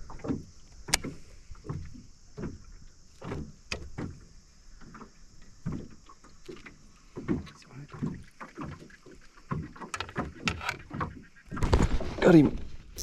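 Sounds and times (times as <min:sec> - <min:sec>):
water sloshing: 0:00.0 - 0:13.0.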